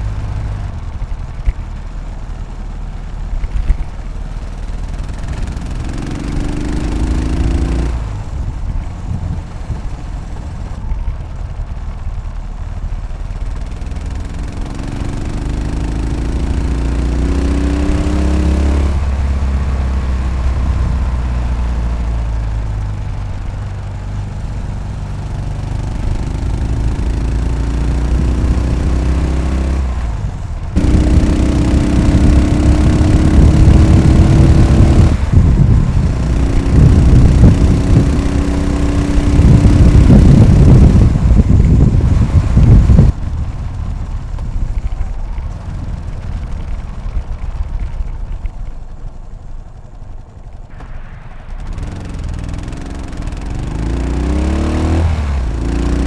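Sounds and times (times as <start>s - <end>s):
motorcycle engine drumming: 0.0s - 56.0s.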